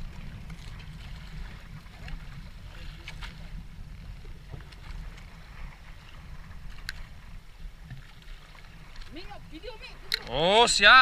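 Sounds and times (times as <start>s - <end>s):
fishing boat engine rumble: 0.0s - 11.0s.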